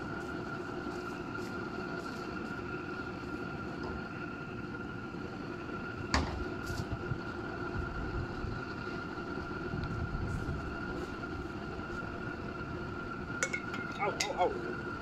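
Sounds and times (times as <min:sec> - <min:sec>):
blower whine: 0:00.0 - 0:15.0
forge burner roar: 0:00.0 - 0:15.0.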